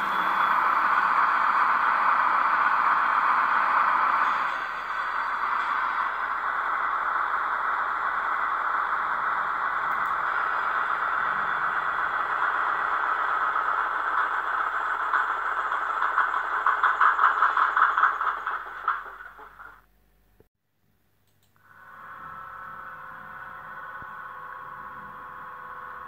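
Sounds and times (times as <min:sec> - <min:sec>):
model diesel engine sound from speakers: 0:00.0 - 0:20.5, 0:21.4 - 0:26.0.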